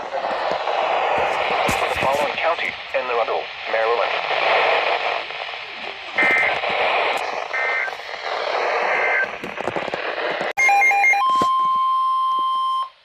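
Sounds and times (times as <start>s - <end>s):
radio static hiss: 0.0s - 10.6s.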